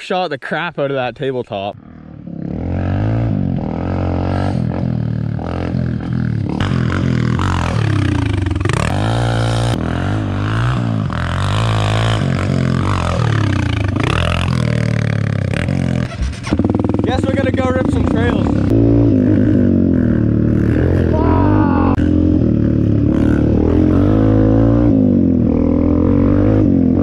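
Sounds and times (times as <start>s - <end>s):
dirt bike engine revving: 1.8s - 27.0s.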